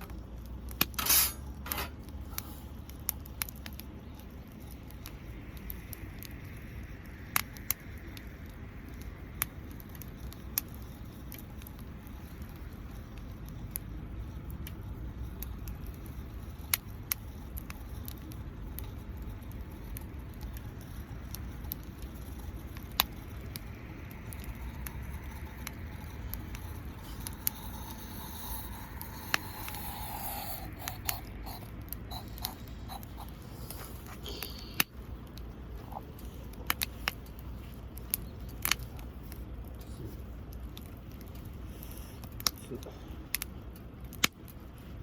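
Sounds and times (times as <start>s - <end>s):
soft hiss: 0.0s - 44.0s
campfire crackling: 0.0s - 45.0s.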